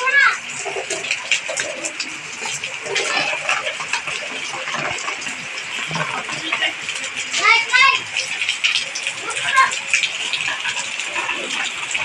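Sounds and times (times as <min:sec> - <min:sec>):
heavy rain on concrete: 0:00.0 - 0:12.0
water splashing: 0:00.0 - 0:12.0.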